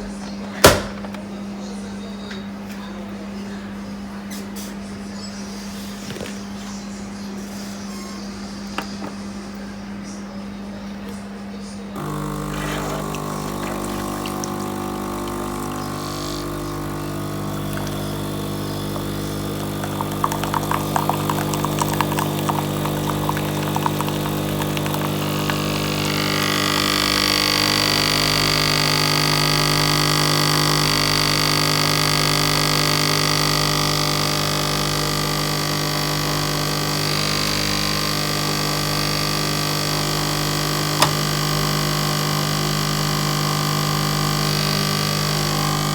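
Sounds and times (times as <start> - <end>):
coffee machine pump humming: 4.3 - 45.9.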